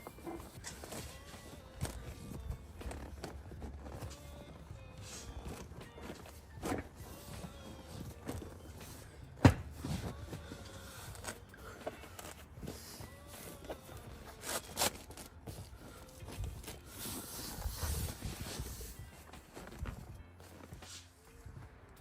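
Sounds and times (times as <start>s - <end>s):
seat cover rustling and scraping: 0.0s - 22.0s.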